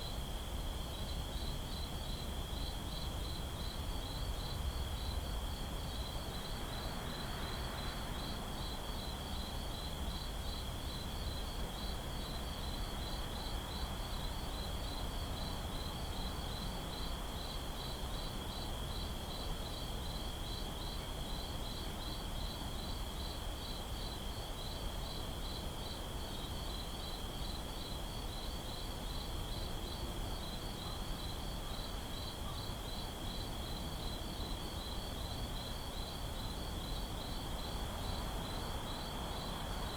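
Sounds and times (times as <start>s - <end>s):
crickets chirping: 0.2s - 39.9s.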